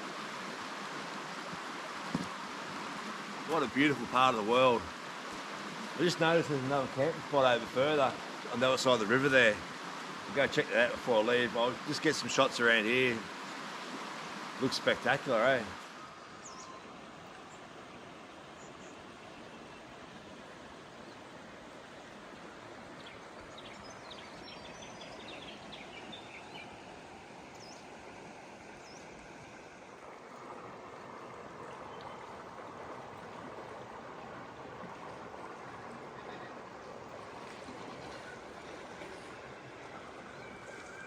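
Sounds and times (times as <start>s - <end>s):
river running over rocks: 0.0s - 41.0s.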